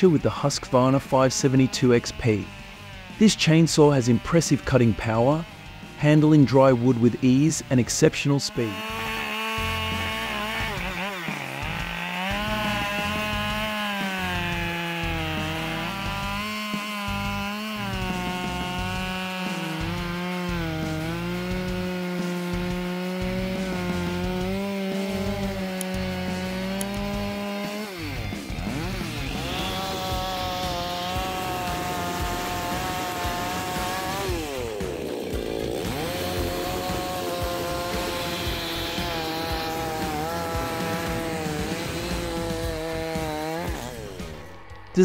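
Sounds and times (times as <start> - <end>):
chainsaw cutting wood: 0.0 - 45.0.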